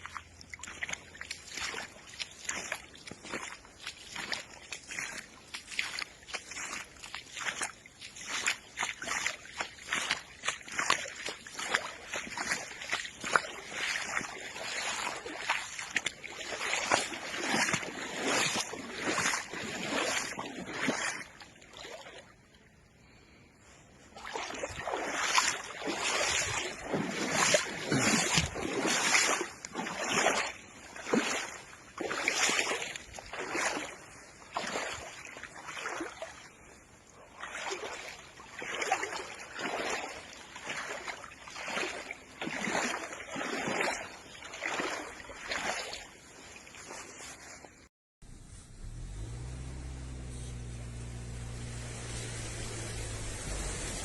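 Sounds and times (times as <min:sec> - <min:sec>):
water splashing: 0:00.0 - 0:22.5, 0:24.1 - 0:47.1, 0:48.2 - 0:54.0.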